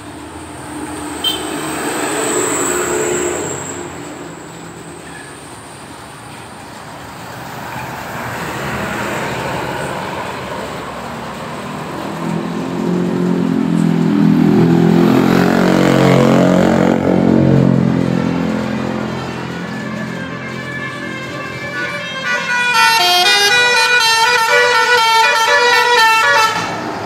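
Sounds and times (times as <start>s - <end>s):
bus engine passing: 0.0s - 27.0s.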